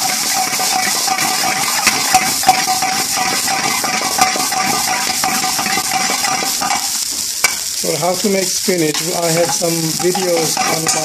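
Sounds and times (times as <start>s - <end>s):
metal ladle clicking on pan: 0.0s - 7.6s, 8.9s - 11.0s
spinach sizzling in hot oil: 0.0s - 11.0s
steady thin whine: 0.0s - 11.0s.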